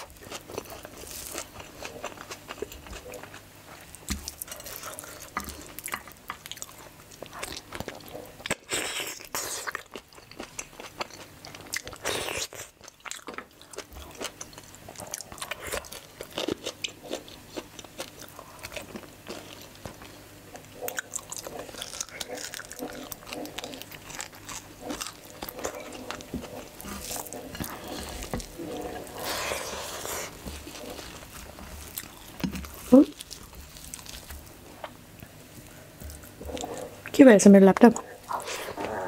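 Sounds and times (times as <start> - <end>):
chewing and wet mouth sounds: 0.0 - 37.2.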